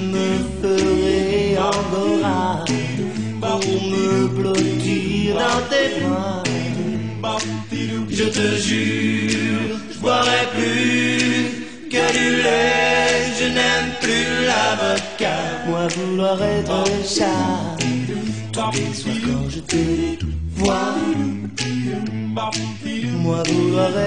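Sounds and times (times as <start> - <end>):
a cappella group singing: 0.0 - 24.0.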